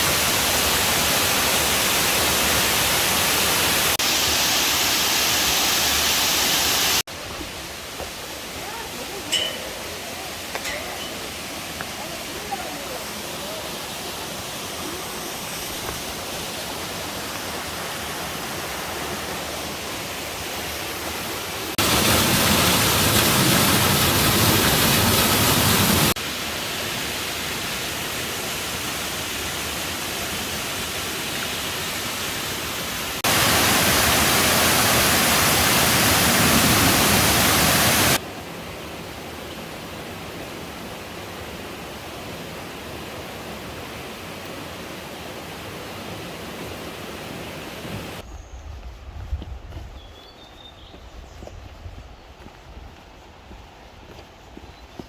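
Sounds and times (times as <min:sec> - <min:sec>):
mountain stream rushing: 0:00.0 - 0:48.2.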